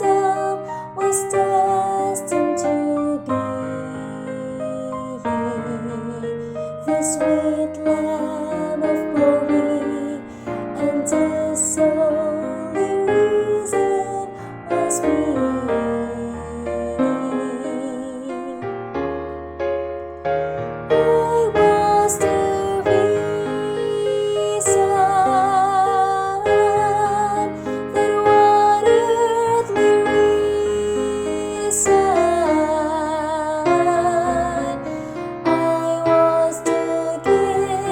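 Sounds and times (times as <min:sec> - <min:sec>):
woman singing soprano: 0:00.0 - 0:18.7, 0:20.9 - 0:37.9
piano accompaniment: 0:00.0 - 0:37.9.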